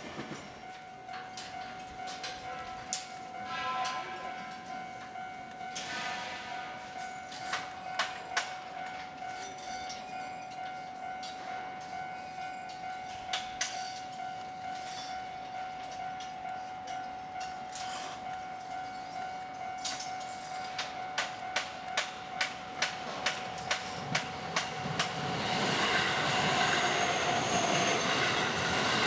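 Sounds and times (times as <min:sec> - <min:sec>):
steady high tone: 0:00.6 - 0:29.0.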